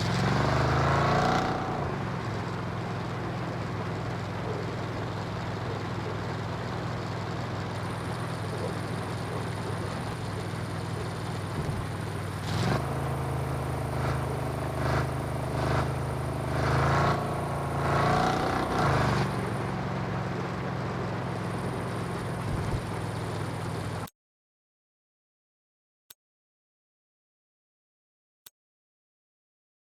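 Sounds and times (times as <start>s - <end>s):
truck engine running: 0.0s - 24.1s.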